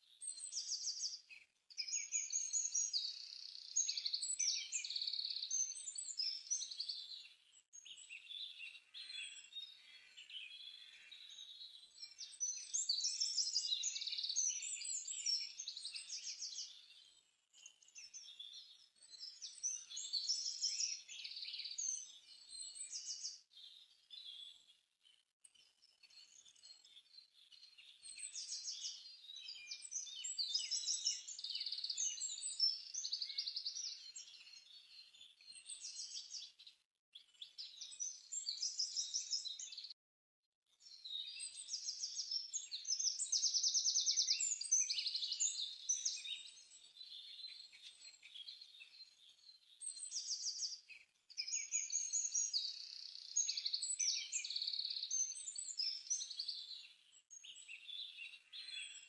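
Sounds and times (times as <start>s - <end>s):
songbirds chirping and trilling: 0.0s - 40.0s, 40.8s - 59.0s.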